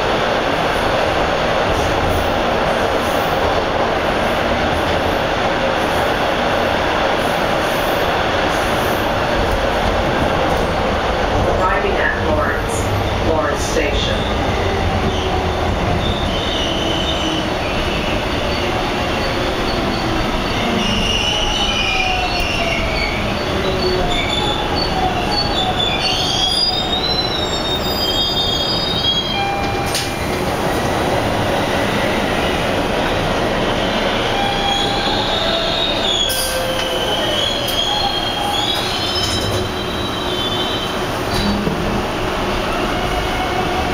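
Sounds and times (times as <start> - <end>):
subway wheels rumbling on rail: 0.0 - 43.9.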